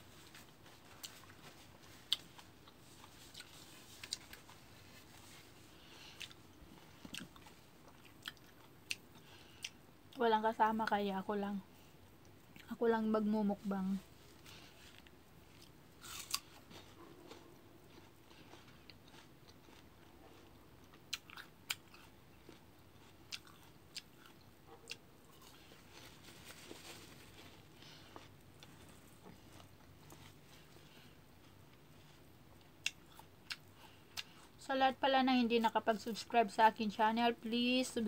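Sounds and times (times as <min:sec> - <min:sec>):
person chewing fruit: 0:00.0 - 0:10.2, 0:14.1 - 0:34.6.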